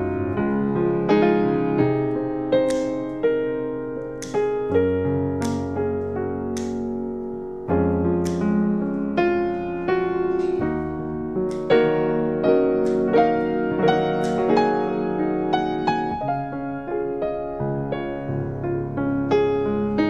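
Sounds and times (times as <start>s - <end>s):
calm piano piece: 0.0s - 20.0s.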